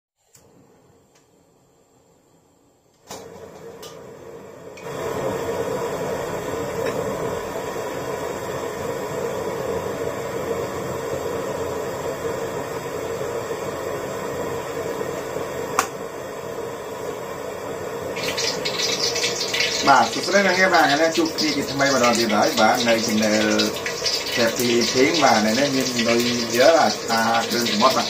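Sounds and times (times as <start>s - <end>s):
gas burner flame rushing: 0.3s - 28.0s.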